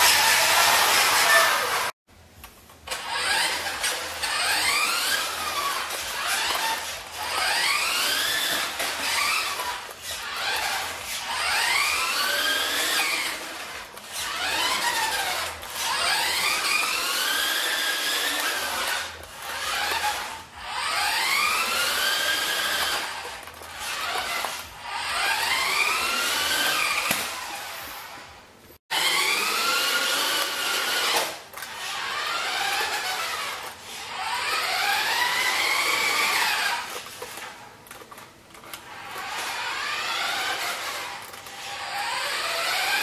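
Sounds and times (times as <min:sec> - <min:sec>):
toy truck motor whining: 0:00.0 - 0:02.0, 0:02.9 - 0:43.0.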